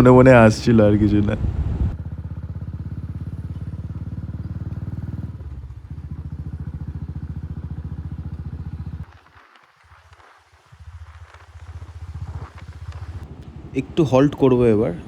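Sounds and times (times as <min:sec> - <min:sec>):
motorcycle engine running: 0:00.0 - 0:09.4, 0:10.0 - 0:15.0.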